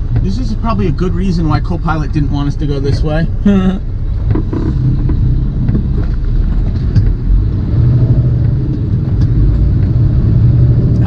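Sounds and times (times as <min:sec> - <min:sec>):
road noise inside cab: 0:00.0 - 0:11.0
truck diesel engine rumbling: 0:00.0 - 0:11.0.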